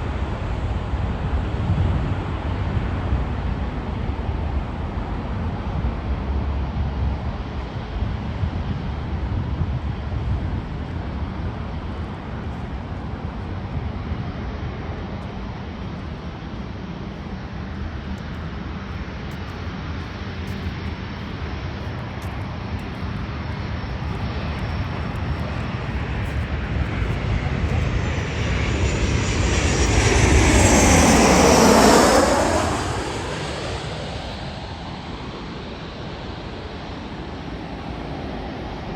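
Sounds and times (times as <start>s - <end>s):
airliner engine rumble: 0.0s - 38.9s.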